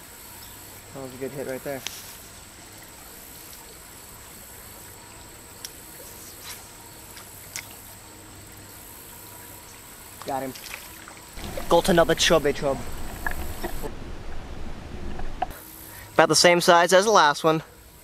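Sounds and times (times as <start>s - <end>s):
high insect drone: 0.0s - 14.5s, 15.4s - 18.0s
faint steady hiss: 0.0s - 18.0s.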